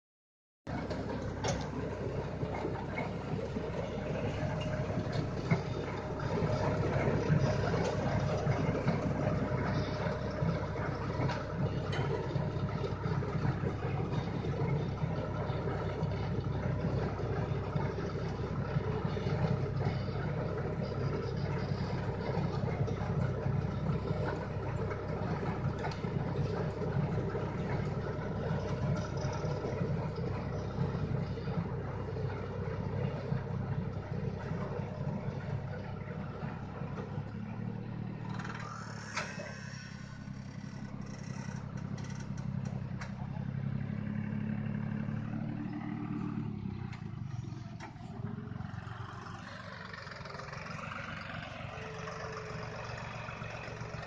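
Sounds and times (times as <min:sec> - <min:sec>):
tractor engine running under load: 0:00.7 - 0:54.0.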